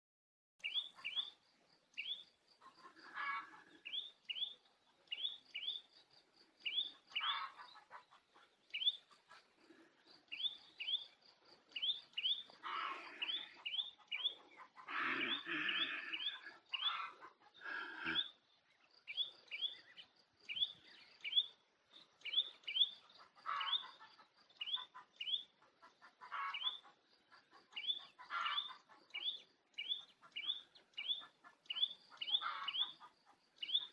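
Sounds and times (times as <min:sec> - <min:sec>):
small birds chirping: 0:00.6 - 0:33.9.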